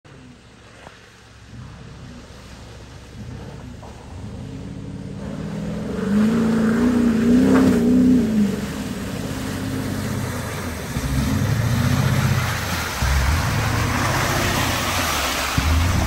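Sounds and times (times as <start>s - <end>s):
mud and water splashing: 0.1s - 16.0s
suv engine revving: 0.1s - 16.0s.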